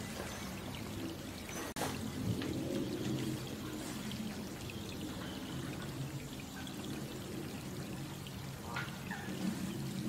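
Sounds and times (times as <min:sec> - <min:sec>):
gentle rain falling: 0:00.0 - 0:10.0.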